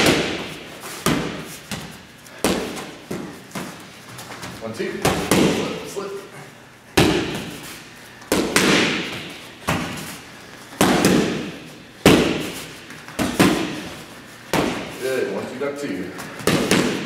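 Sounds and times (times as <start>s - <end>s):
boxing gloves smacking mitts: 0.0s - 5.9s, 7.0s - 15.0s, 16.2s - 17.0s.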